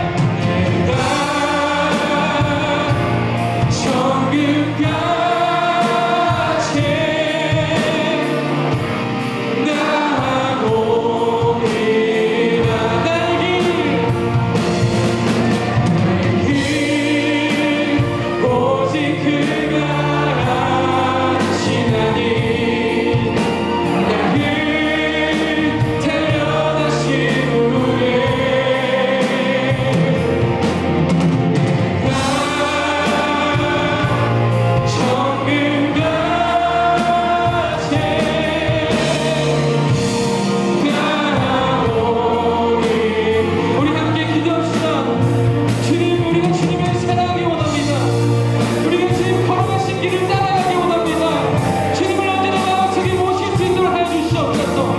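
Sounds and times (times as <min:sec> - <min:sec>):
voices singing together: 0:00.0 - 0:54.9
worship band playing: 0:00.0 - 0:54.9.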